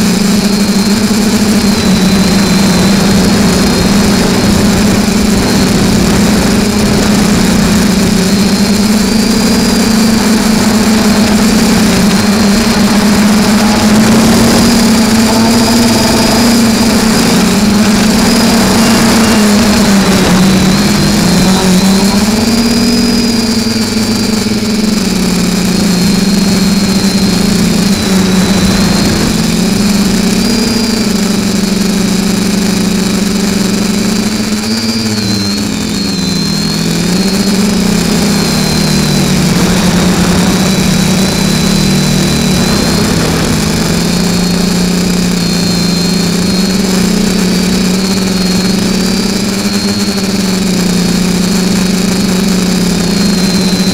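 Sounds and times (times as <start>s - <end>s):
drone motors buzzing: 0.0s - 53.9s.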